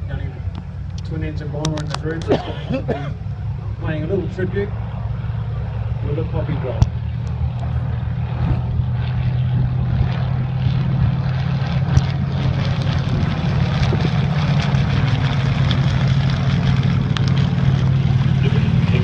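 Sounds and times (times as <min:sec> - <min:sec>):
propeller plane engines droning: 0:00.0 - 0:19.0.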